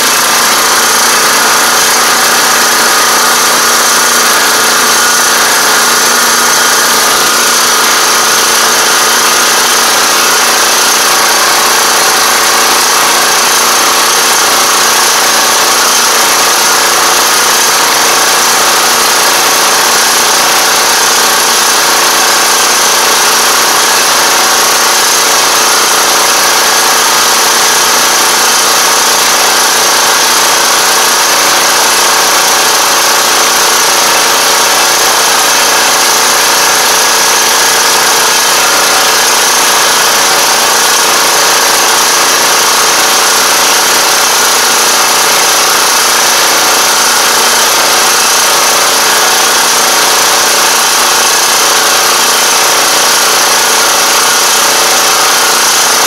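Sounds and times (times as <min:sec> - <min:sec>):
rice transplanter engine hum: 0:00.0 - 0:56.0.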